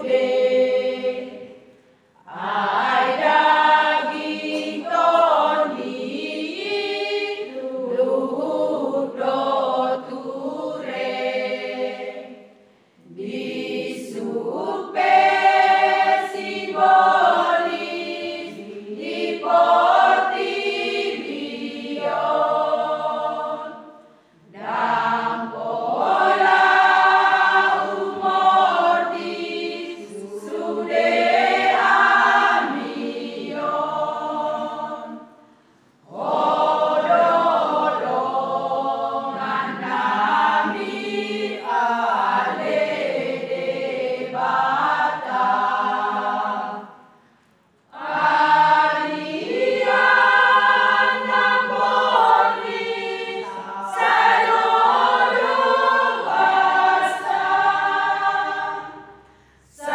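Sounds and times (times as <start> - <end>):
women's choir singing a hymn: 0.0 - 59.9.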